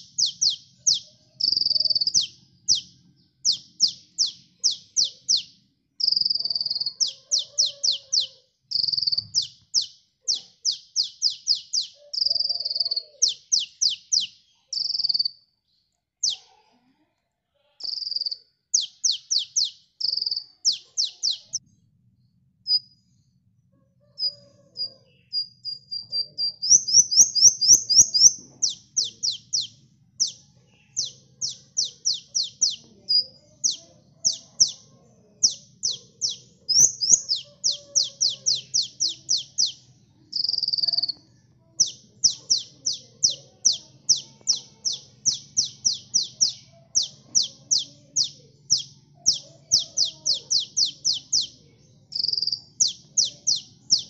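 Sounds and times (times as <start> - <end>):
sunbird singing: 0.0 - 16.5, 17.8 - 23.4, 24.0 - 54.0.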